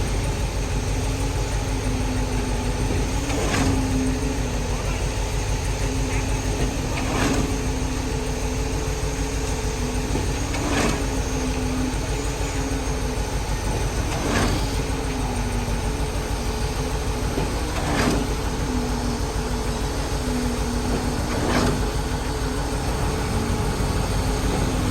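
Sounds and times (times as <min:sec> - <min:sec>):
cement mixer truck running: 0:00.0 - 0:24.9.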